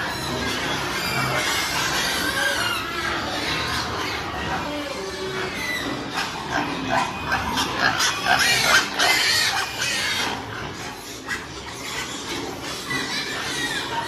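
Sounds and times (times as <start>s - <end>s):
pigs squealing and grunting: 0.0s - 14.0s.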